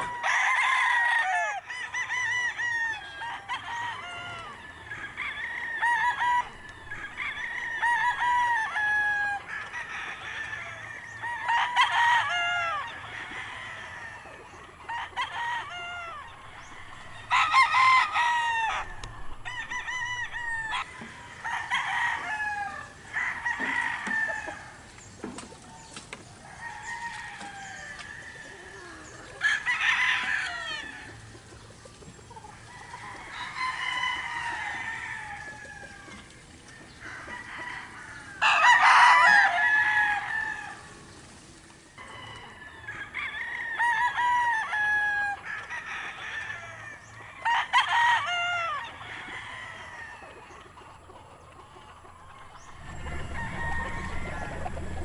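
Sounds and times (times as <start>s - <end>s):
roosters crowing: 0.0s - 55.0s
chickens clucking: 2.3s - 43.2s, 44.8s - 55.0s.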